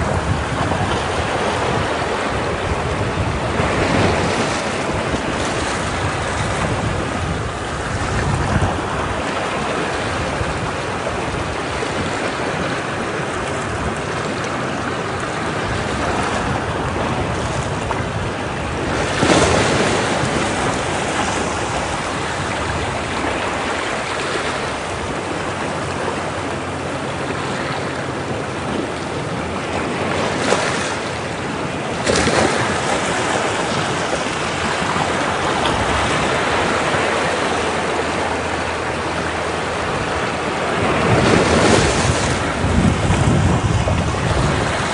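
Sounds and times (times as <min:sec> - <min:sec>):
waves breaking against rocks: 0:00.0 - 0:44.9.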